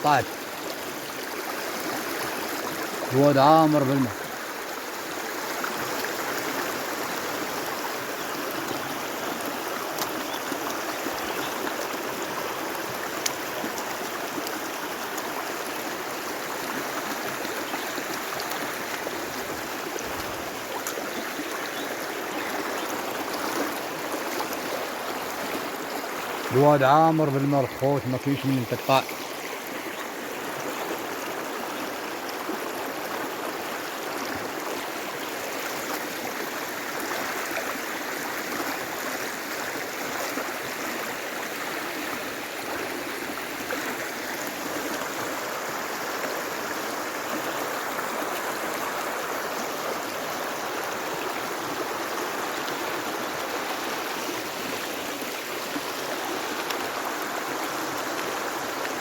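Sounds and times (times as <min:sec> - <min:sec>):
water flowing: 0:00.0 - 0:59.0.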